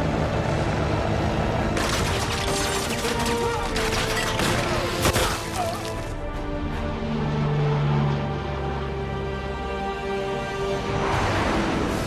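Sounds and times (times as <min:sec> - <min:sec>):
film score music: 0:00.0 - 0:12.0.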